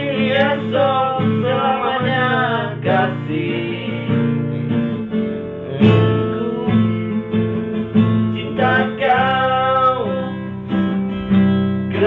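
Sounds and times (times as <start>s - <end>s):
man singing: 0.0s - 4.6s, 5.5s - 10.8s
acoustic guitar strumming: 0.0s - 12.0s.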